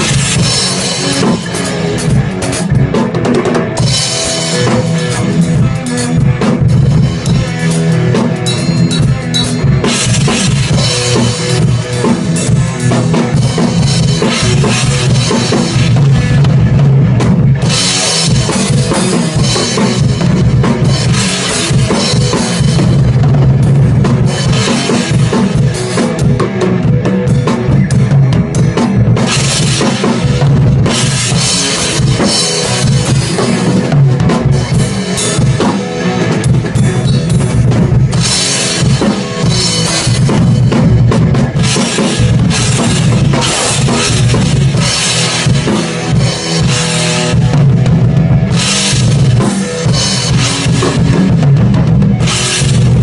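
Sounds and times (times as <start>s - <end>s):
bass guitar line: 0.0s - 53.0s
drum kit playing: 0.0s - 53.0s.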